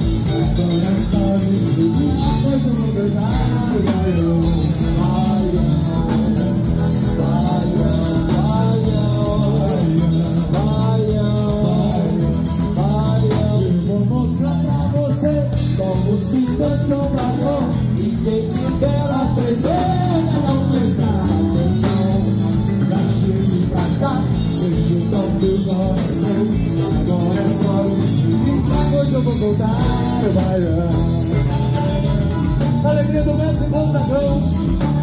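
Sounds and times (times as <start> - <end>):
song with singing over beat: 0.0 - 35.0.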